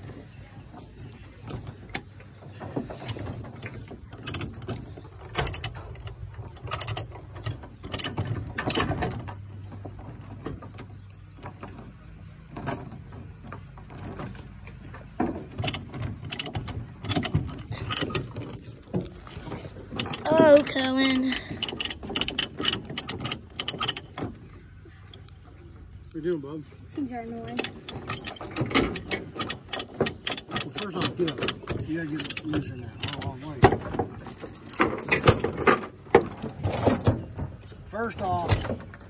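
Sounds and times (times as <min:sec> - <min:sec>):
chain clanking: 0:00.0 - 0:25.8, 0:27.2 - 0:39.0.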